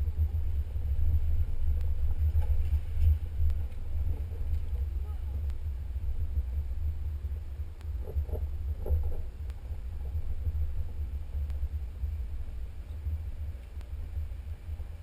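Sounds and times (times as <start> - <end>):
faint ticks: 0.0 - 6.7, 7.6 - 15.0
vehicle rumbling over dirt trail: 0.0 - 15.0.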